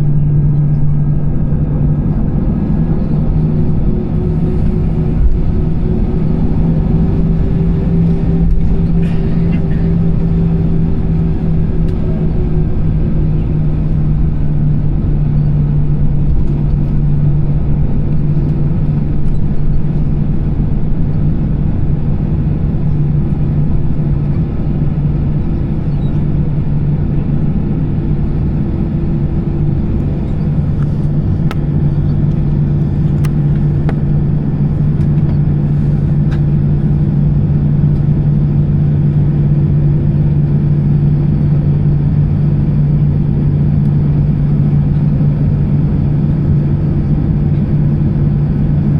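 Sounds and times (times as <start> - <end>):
aircraft cabin engine hum: 0.0 - 48.9.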